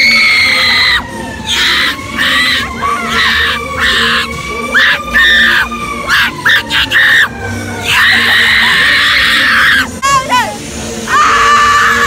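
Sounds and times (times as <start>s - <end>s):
girls screaming: 0.0s - 10.1s, 11.1s - 12.0s.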